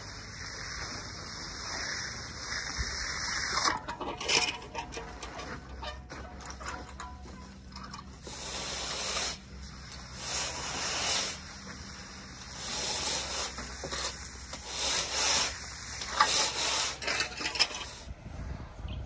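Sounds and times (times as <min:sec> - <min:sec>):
float scraping wet concrete: 0:00.0 - 0:18.1.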